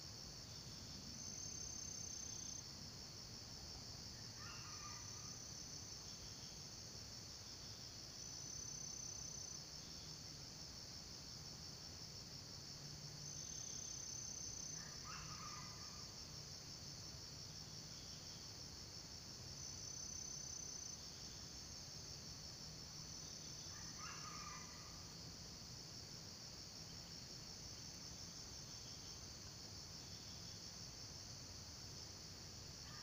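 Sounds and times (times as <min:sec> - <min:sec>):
insect chorus: 0:00.0 - 0:33.0.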